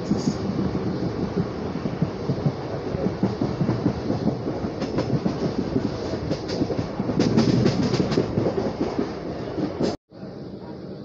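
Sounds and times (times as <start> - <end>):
clickety-clack rail clicks: 0.0 - 10.0
train wheels rumbling on rails: 0.0 - 11.0.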